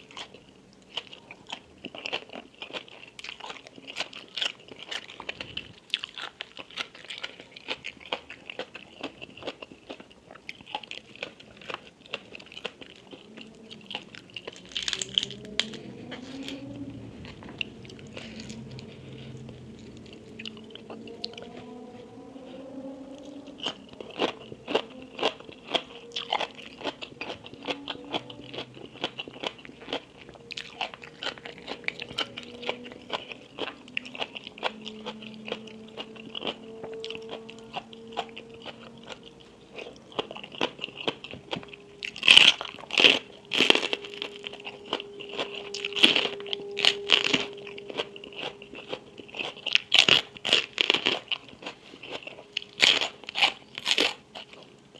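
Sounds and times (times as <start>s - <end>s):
crunching and chewing crisp food: 0.0s - 54.9s.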